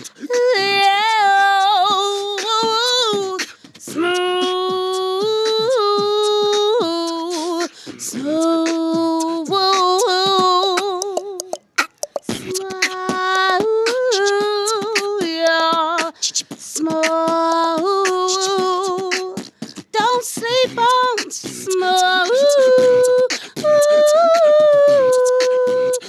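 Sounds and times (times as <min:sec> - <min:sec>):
a cappella singing: 0:00.0 - 0:11.6, 0:12.3 - 0:26.0
beatboxing: 0:00.0 - 0:26.0.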